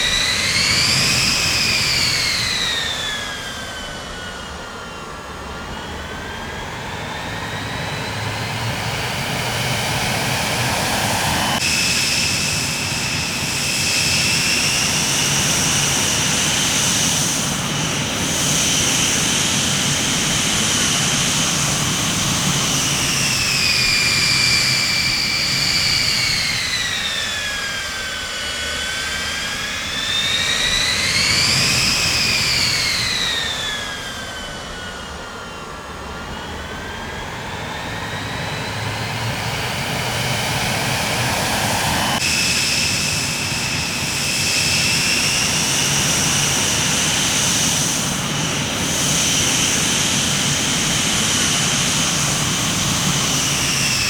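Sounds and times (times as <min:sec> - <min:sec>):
high turbine whine: 0:00.0 - 0:54.0
jet engines roaring: 0:00.0 - 0:54.0.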